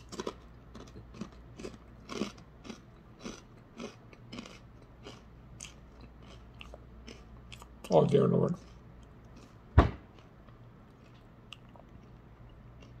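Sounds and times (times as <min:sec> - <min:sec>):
man chewing crunchy chips: 0:00.0 - 0:13.0.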